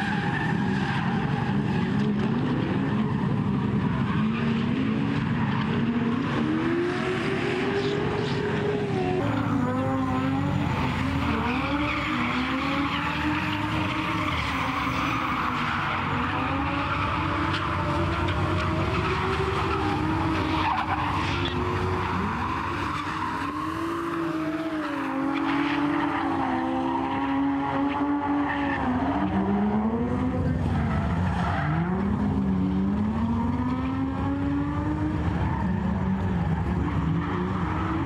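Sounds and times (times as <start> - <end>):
car engines revving: 0.0 - 38.0
tyres skidding on asphalt: 0.0 - 38.0.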